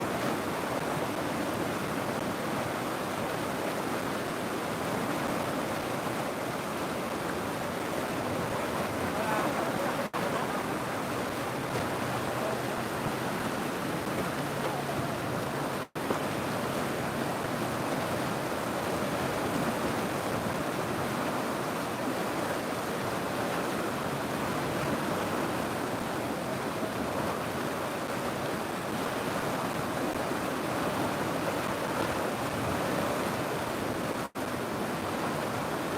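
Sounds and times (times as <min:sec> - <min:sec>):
river water flowing: 0:00.0 - 0:35.9.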